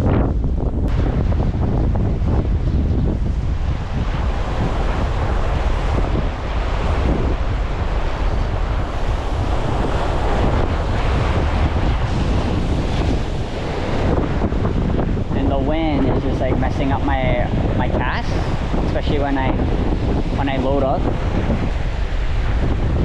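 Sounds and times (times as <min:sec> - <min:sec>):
ocean waves on rocks: 0:00.0 - 0:23.0
wind buffeting microphone: 0:00.0 - 0:23.0.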